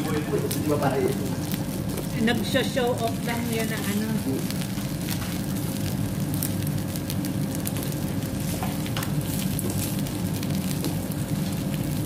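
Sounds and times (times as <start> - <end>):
crackles: 0.0 - 12.0
food sizzling on a grill: 0.0 - 12.0
low hum from cooker: 0.0 - 12.0.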